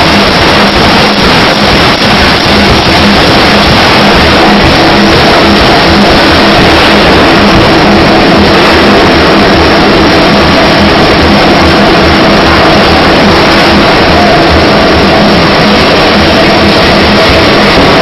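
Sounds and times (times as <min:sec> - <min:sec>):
fast low pulse: 0:00.0 - 0:18.0
forging machinery din: 0:00.0 - 0:18.0.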